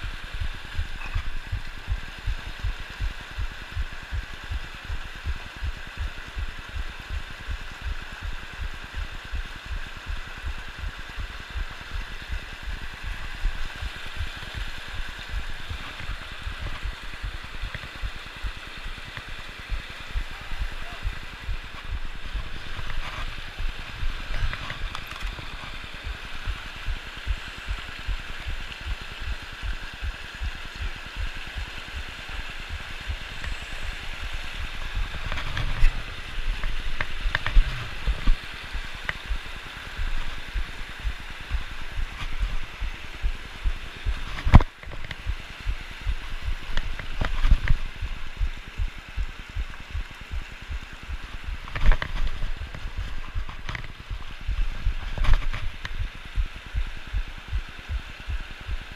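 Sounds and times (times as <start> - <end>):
creek rushing over boulders: 0.0 - 58.9.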